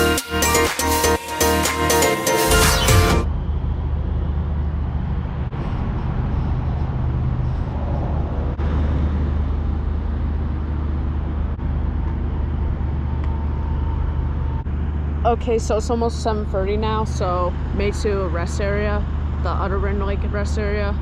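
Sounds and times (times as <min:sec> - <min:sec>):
car road noise: 0:02.0 - 0:21.0
low engine hum: 0:02.0 - 0:21.0.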